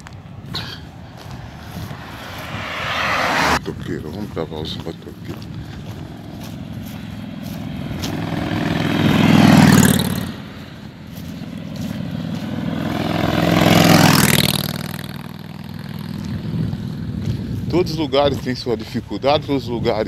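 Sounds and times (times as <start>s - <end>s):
motorcycles passing by: 0.0s - 3.6s, 4.3s - 17.8s.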